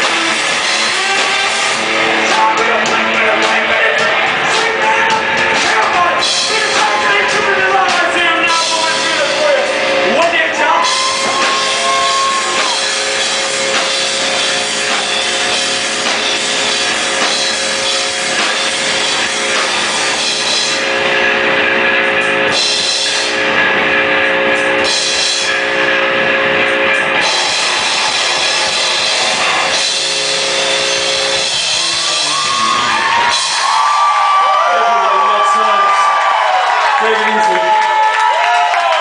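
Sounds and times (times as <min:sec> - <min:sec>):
drum kit with cymbals: 0:00.0 - 0:34.3.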